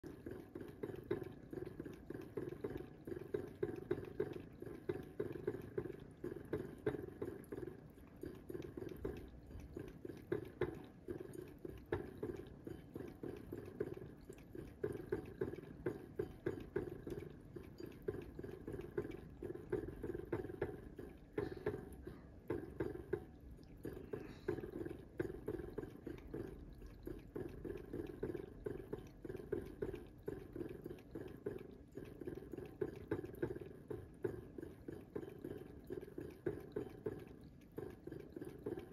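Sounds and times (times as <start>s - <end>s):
cat lapping water: 0.0s - 38.9s.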